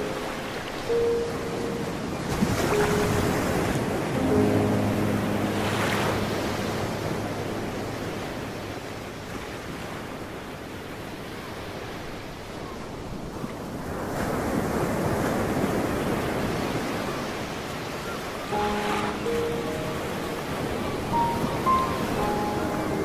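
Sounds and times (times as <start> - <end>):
ocean waves surging: 0.0 - 23.0.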